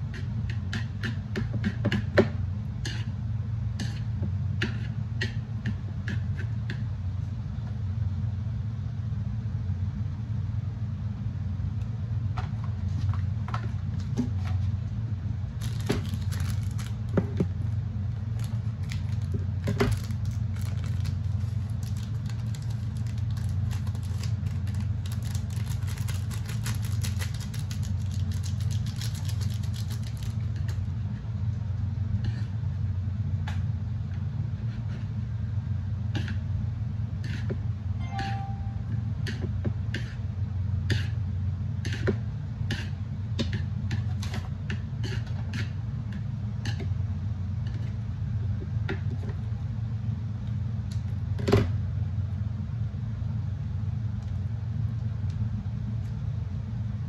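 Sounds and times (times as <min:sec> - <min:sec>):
low hum: 0:02.4 - 0:57.0.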